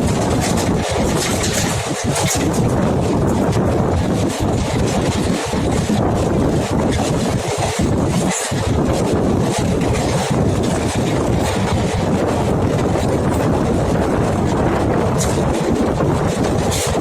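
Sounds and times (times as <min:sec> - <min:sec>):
train rumbling at speed: 0:00.0 - 0:17.0
wind buffeting microphone: 0:00.0 - 0:17.0.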